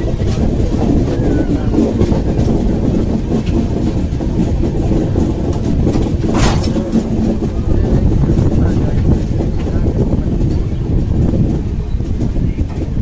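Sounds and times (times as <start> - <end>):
rushing air: 0.0 - 13.0
train wheels rumbling on rails: 0.0 - 13.0.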